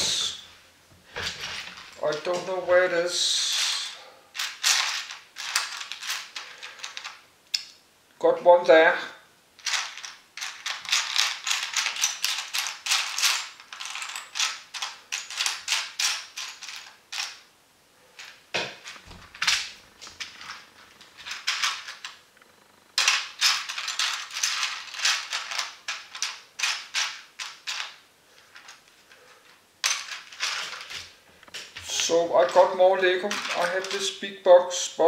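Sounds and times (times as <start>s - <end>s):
plastic pieces rattling: 1.1s - 2.6s, 3.4s - 7.2s, 9.6s - 17.4s, 18.2s - 22.2s, 23.0s - 34.2s.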